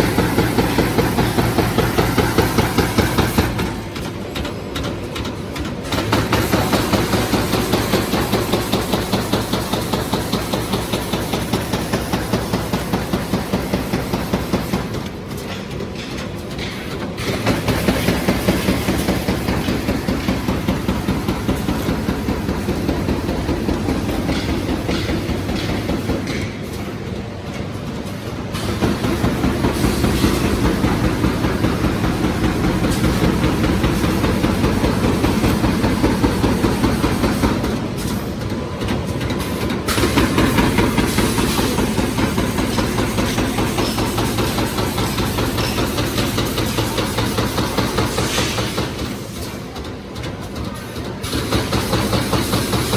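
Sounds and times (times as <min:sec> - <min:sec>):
bag making machine clatter: 0:00.0 - 0:52.9.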